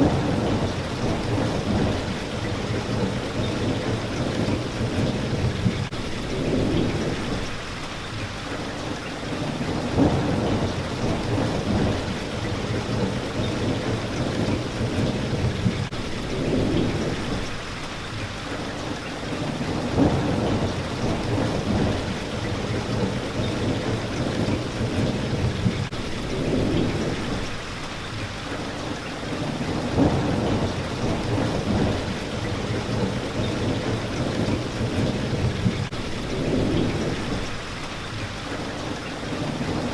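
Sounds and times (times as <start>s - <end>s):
thunder rumbling: 0.0s - 7.6s, 9.3s - 17.6s, 19.3s - 27.6s, 29.3s - 37.8s
rain hitting a window: 0.0s - 39.9s.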